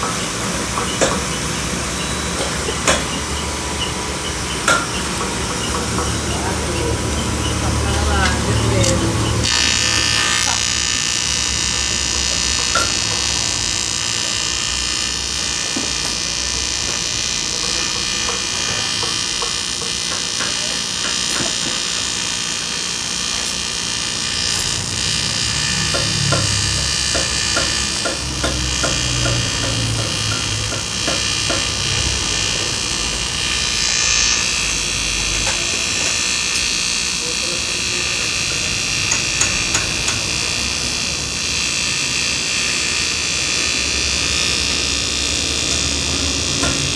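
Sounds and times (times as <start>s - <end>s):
power tool motor whining: 0.0s - 46.9s.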